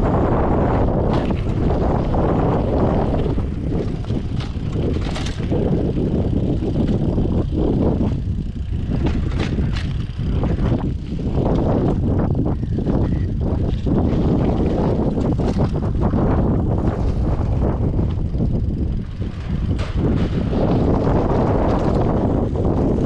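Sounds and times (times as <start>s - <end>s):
rumbling noise from riding: 0.0s - 23.0s
wind rushing over microphone: 0.0s - 23.0s.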